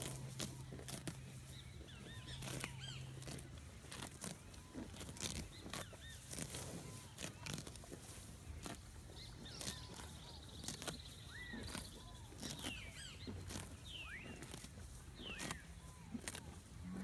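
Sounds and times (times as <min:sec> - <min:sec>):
birds chirping: 0:00.0 - 0:17.0
oxen tearing and crunching grass: 0:00.0 - 0:17.0.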